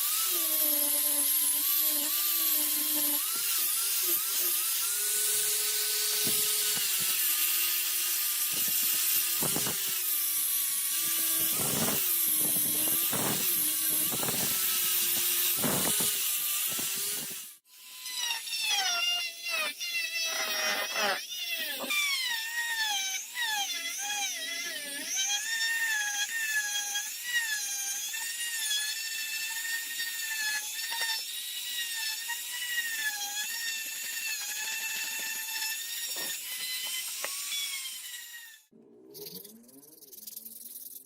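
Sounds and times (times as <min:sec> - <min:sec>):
rotary power tool whining: 0:00.0 - 0:41.0.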